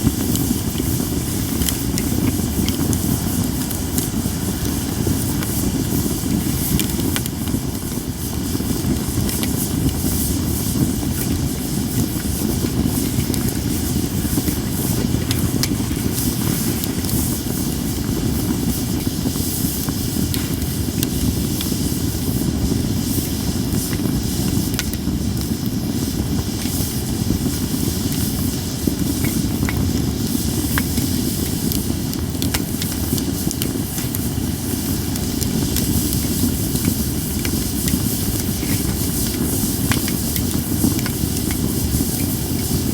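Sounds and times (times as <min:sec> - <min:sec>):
campfire burning: 0:00.0 - 0:42.9
crackles and pops of burning wood: 0:00.0 - 0:42.9.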